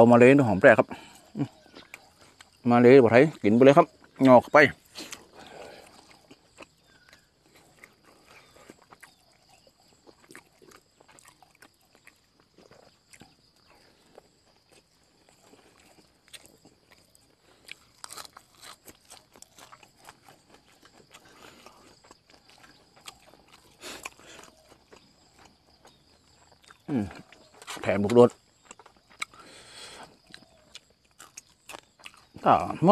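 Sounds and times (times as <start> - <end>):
crunchy bites of raw greens: 0.8 - 32.9
person chewing with mouth clicks: 1.2 - 2.6, 4.0 - 27.8, 28.5 - 32.4.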